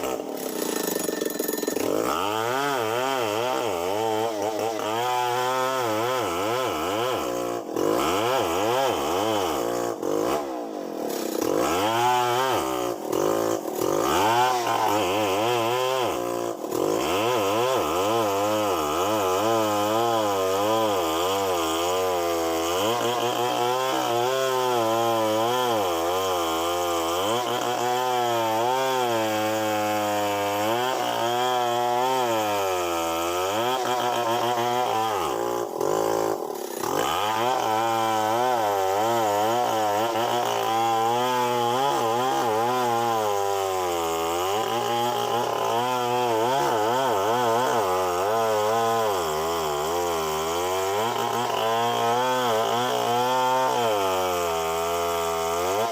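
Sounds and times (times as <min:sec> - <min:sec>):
chainsaw cutting: 0:00.0 - 0:55.9.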